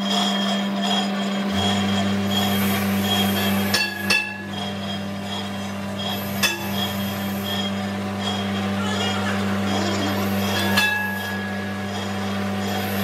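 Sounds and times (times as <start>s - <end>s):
lathe motor hum: 0.0s - 13.0s
sharp metallic clinks: 1.5s - 13.0s.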